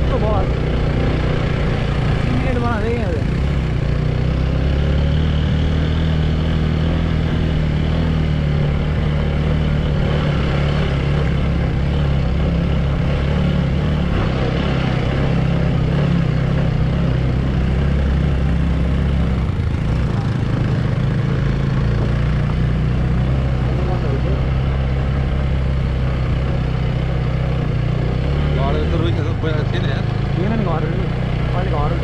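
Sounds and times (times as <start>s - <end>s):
motorbike engine running: 0.0s - 32.0s.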